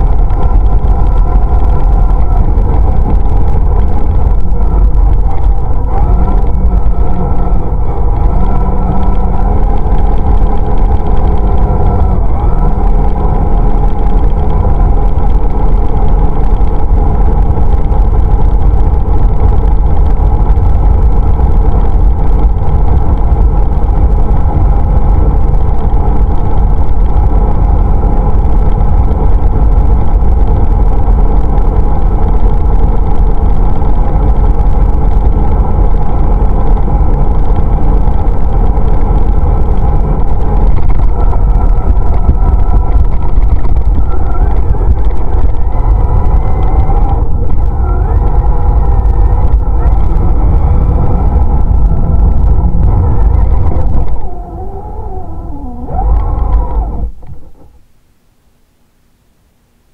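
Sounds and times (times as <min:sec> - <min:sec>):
tyres rumbling on asphalt: 0:00.0 - 0:57.9
drivetrain hum: 0:00.0 - 0:59.9.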